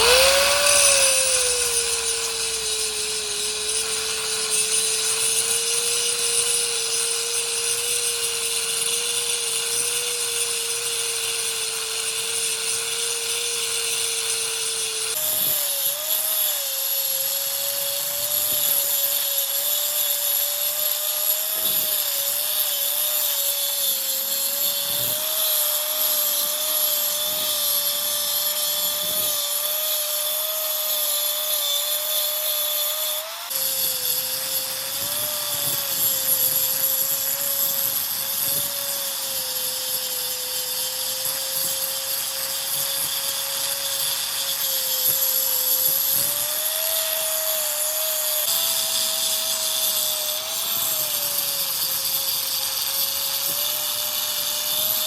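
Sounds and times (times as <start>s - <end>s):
hiss of cutting: 0.0s - 55.0s
power tool whining on metal: 0.0s - 55.0s.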